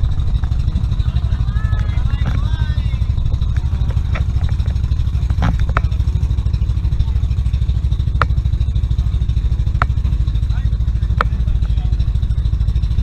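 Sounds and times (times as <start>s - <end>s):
boat engine pulsing: 0.0s - 13.0s.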